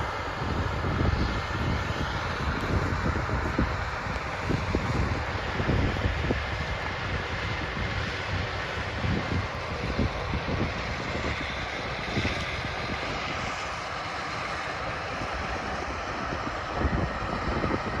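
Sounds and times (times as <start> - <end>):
harvester engine and machinery: 0.0 - 18.0
wind buffeting microphone: 0.0 - 18.0.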